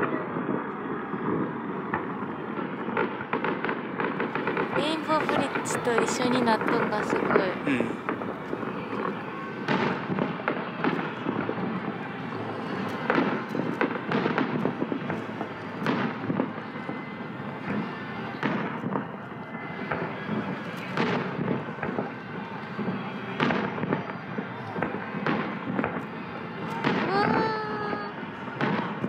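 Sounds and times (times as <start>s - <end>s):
fireworks bangs: 0.0s - 29.0s
fireworks crackle and rumble: 0.0s - 29.0s.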